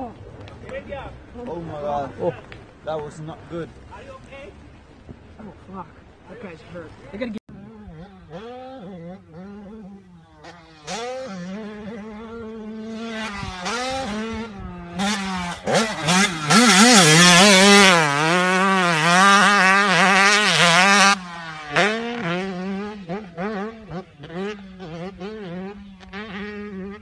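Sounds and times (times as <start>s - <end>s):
dirt bike engine revving: 5.3s - 27.0s.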